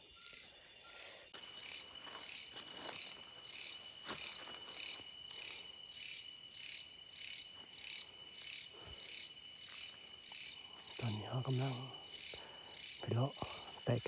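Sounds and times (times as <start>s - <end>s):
insects pulsing chorus: 0.0s - 14.0s.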